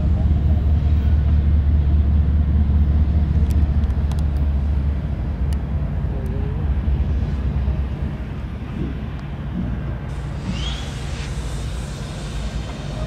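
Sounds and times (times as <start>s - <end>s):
diesel locomotive engines droning: 0.0s - 13.0s.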